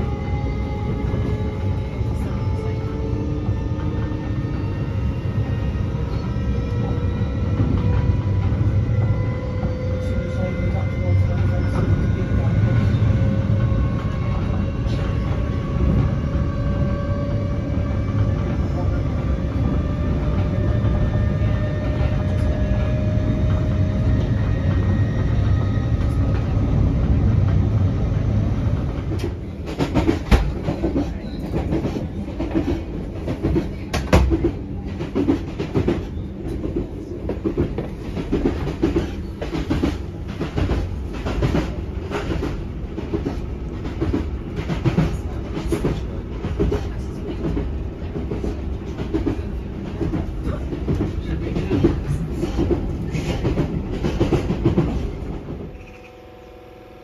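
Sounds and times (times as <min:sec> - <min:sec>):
train running gear rumble: 0:00.0 - 0:56.2.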